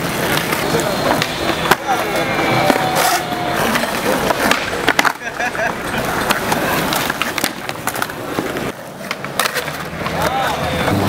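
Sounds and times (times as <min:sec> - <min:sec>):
crowd voices: 0:00.0 - 0:11.0
skateboard clacks: 0:00.0 - 0:11.0
skateboard wheels rolling on concrete: 0:00.0 - 0:11.0.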